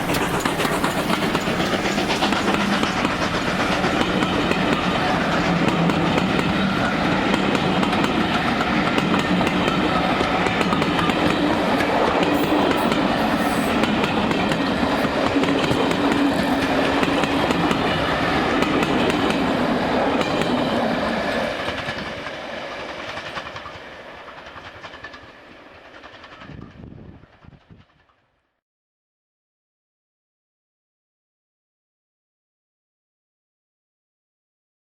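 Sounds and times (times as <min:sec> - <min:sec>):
train running past: 0:00.0 - 0:28.2.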